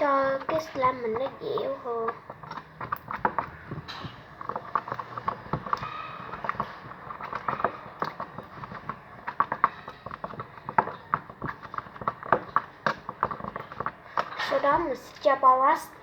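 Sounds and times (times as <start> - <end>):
stirrer tapping container: 0.0 - 15.2
thick slime being stirred: 0.0 - 16.0.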